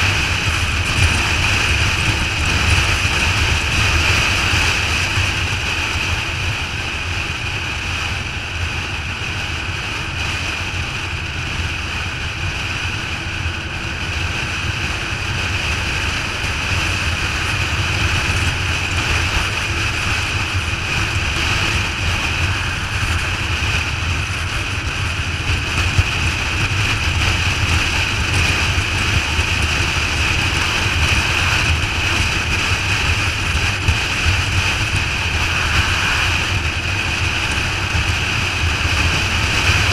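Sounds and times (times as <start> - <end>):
motorcycle and road rumble: 0.0 - 39.9
wind rush over microphone: 0.0 - 39.9.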